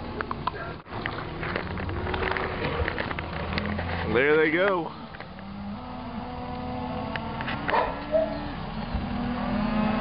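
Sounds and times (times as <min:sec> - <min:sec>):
cattle lowing: 0:01.2 - 0:10.0.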